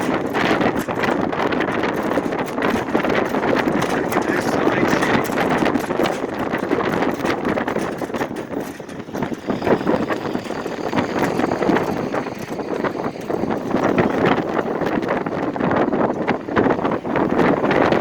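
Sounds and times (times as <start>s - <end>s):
sign rattling and knocking: 0.0s - 18.0s
wind gusting over microphone: 0.0s - 18.0s.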